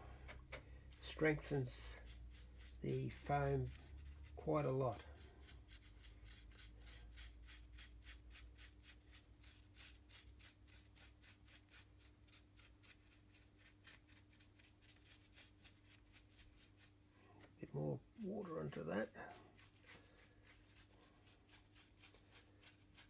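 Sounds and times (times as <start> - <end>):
rhythmic paintbrush brushing: 0.8 - 23.0.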